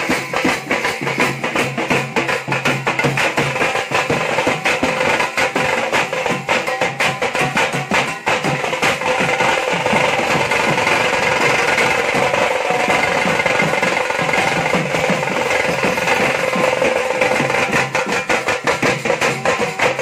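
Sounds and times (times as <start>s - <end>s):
drum band playing fast roll: 0.0s - 20.0s.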